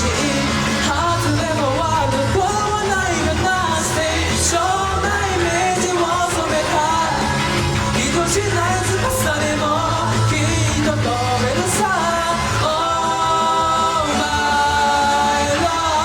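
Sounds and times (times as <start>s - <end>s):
loud rock accompaniment: 0.0s - 16.0s
person singing rock song: 0.0s - 16.0s.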